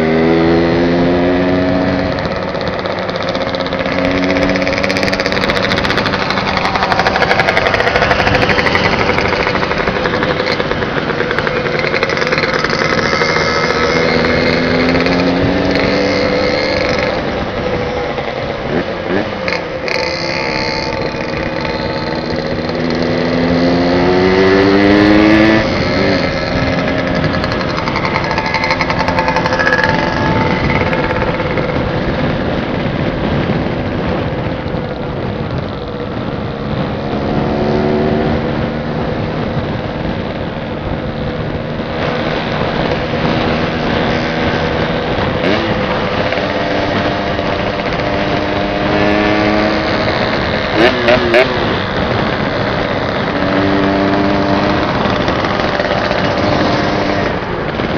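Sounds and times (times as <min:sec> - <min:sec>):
motorcycle engine accelerating: 0:00.0 - 0:57.9
wind rushing over microphone: 0:00.0 - 0:57.9.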